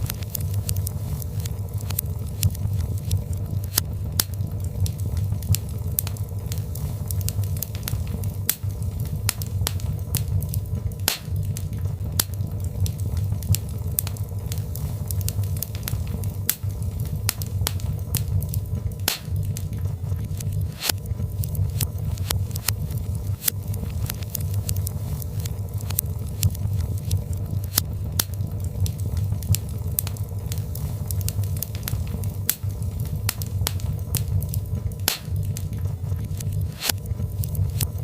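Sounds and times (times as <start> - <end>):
fire crackling with pops and snaps: 0.0 - 38.0
low rumble of flames: 0.0 - 38.0.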